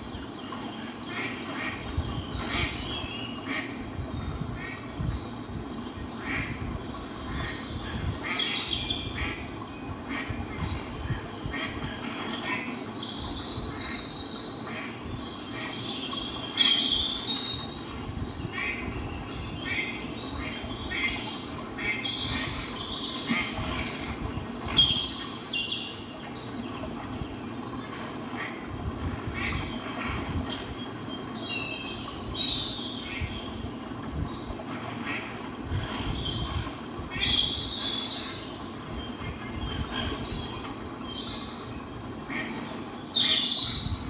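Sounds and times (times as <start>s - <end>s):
birds chirping and peeping: 0.0s - 44.0s.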